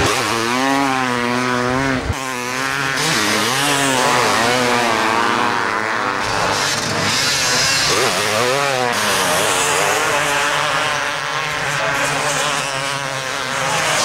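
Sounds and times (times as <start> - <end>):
motorbike engines revving: 0.0 - 14.0.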